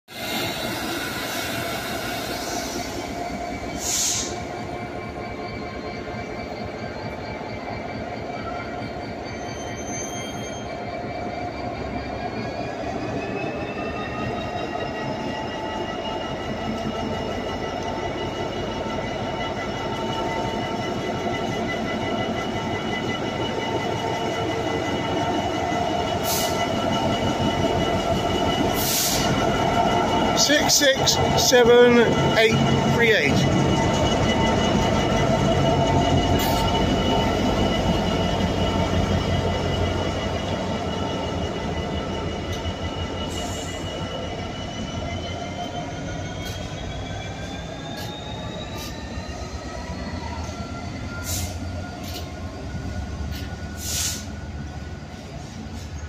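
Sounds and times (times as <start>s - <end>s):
diesel locomotive engine working hard: 0.1s - 56.0s
high squeals: 0.2s - 55.7s.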